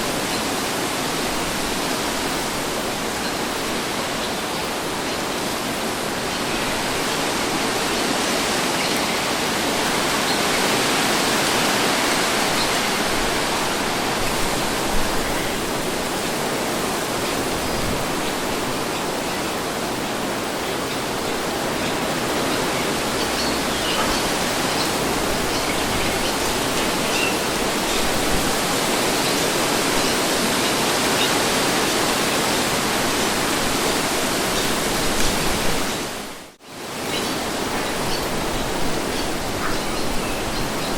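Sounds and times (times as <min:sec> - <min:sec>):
wind blowing: 0:00.0 - 0:40.9.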